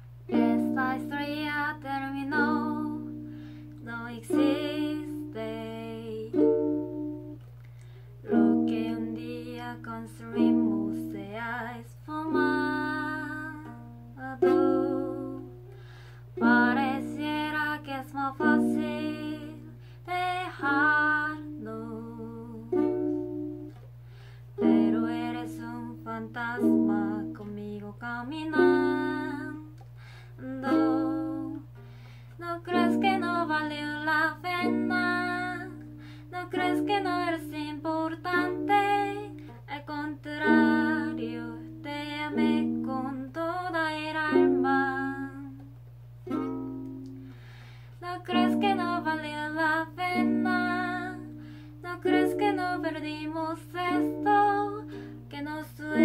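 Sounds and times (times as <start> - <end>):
ukulele: 0.1 - 56.0
woman singing: 0.3 - 7.4, 8.2 - 23.7, 24.6 - 45.8, 48.0 - 56.0.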